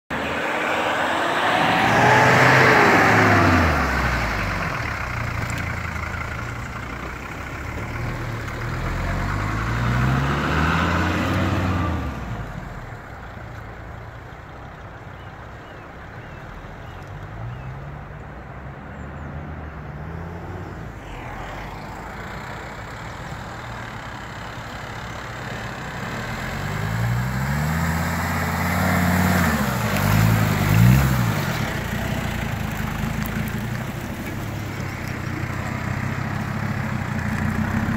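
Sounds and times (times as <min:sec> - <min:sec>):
off-road engines revving: 0:00.1 - 0:13.4, 0:19.2 - 0:37.9.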